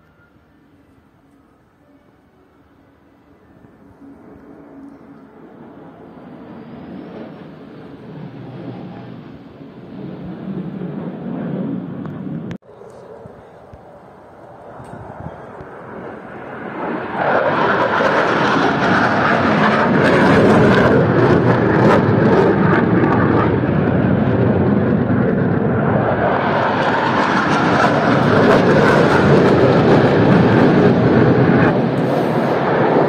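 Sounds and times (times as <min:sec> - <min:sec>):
jet roar overhead: 0:00.0 - 0:33.0.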